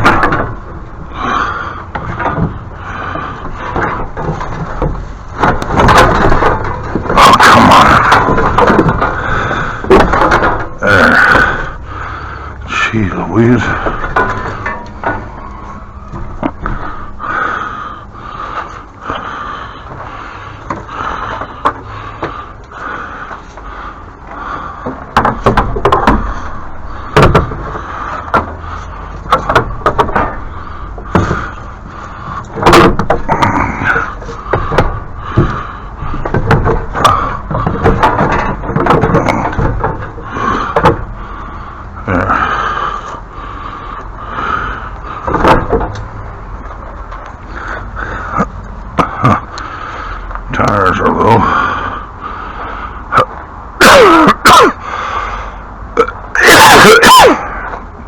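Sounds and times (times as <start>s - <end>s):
knocks and bangs of handled objects: 0.0s - 17.6s, 18.4s - 42.5s, 44.9s - 50.4s
steady background noise: 0.0s - 58.0s.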